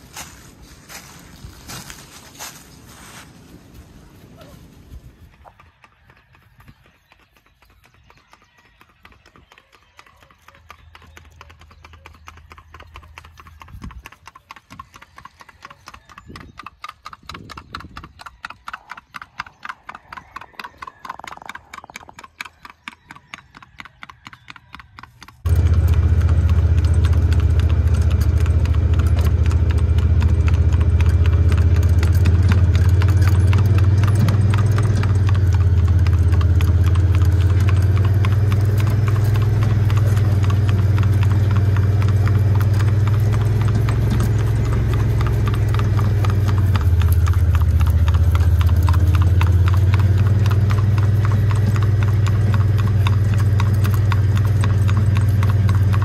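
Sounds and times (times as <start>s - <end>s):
hoofbeats on pavement: 0.0s - 56.0s.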